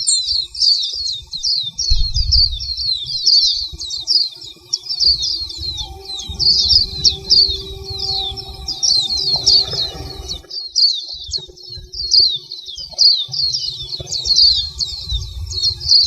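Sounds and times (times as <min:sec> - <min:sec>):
small songbird twittering: 0:00.0 - 0:16.0
low rumble: 0:01.3 - 0:12.2, 0:13.6 - 0:16.0.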